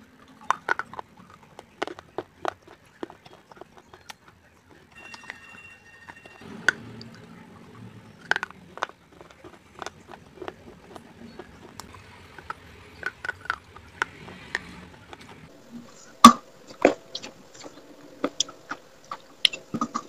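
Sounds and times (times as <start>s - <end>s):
clay crunching between teeth: 0.0s - 7.3s, 8.2s - 20.0s
wet chewing: 0.0s - 20.0s.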